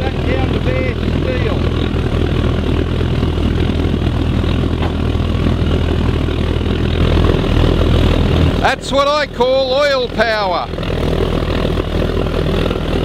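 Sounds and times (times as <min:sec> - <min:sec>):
low hum: 0:00.0 - 0:13.0
oil burner roaring: 0:00.0 - 0:13.0.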